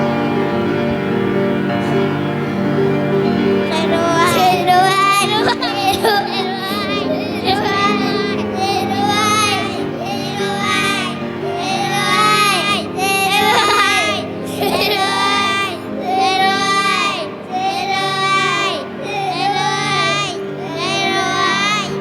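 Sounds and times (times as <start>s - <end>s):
children singing together: 0.0s - 22.0s.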